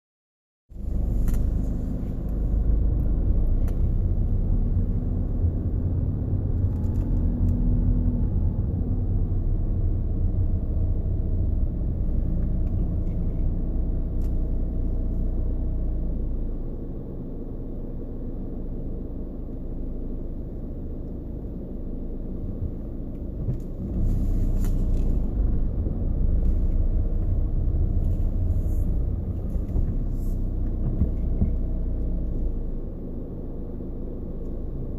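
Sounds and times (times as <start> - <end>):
car cabin road and engine rumble: 0.7 - 34.9.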